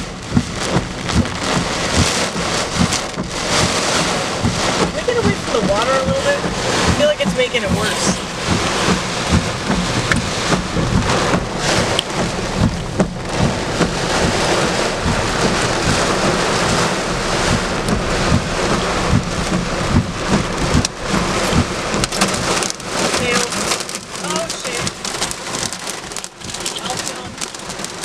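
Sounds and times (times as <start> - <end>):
heavy rain pouring: 0.0 - 28.0
low thunder rumbling: 0.0 - 28.0.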